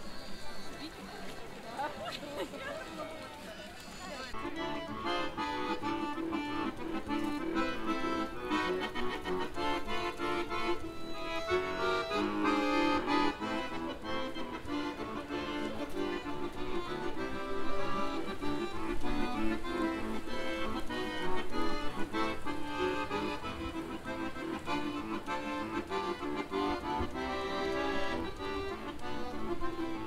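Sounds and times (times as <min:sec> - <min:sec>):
accordion tune: 0:04.2 - 0:30.0.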